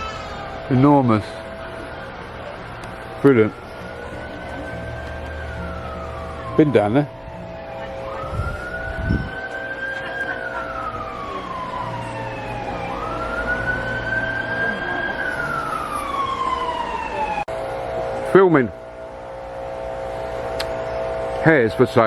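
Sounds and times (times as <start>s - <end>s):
emergency vehicle siren wailing: 0.0s - 22.0s.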